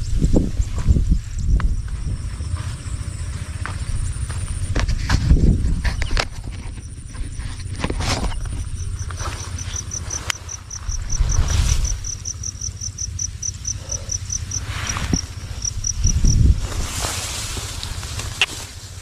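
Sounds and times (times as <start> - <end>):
insect chirping in pulses: 0.0 - 19.0
low rumble: 0.0 - 19.0.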